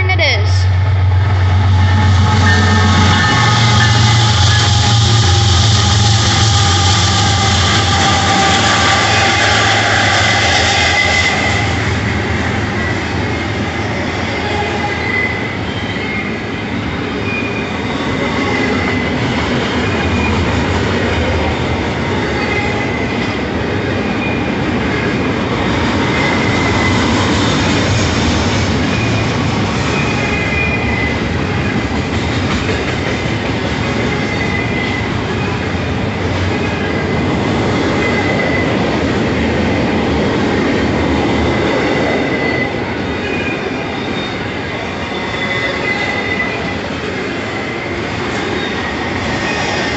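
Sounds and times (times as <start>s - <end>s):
train wheels rumbling on rails: 0.0s - 49.9s
high wheel squeal: 1.5s - 25.2s, 25.8s - 32.4s, 33.3s - 38.9s, 41.3s - 49.9s.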